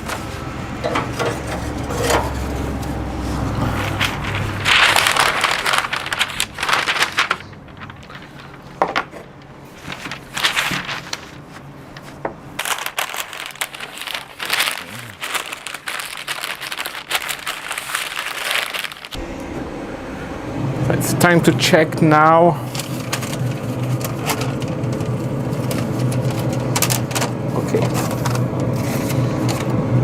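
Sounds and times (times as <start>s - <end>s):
paper crinkling and rustling: 0.0s - 19.2s, 22.6s - 30.0s.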